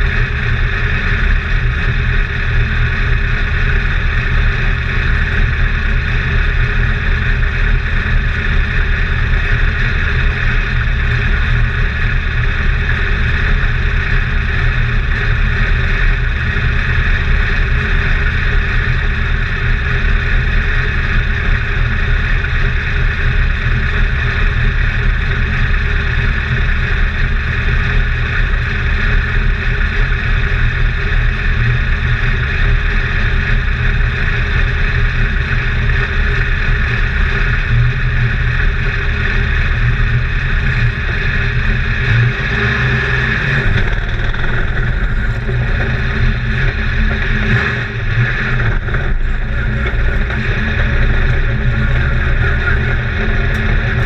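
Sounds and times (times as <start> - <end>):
race car engine idling: 0.0 - 54.0.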